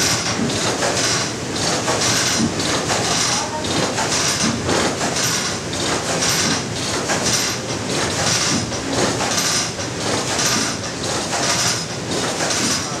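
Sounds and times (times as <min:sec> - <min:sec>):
sawmill machinery rattling: 0:00.0 - 0:13.0.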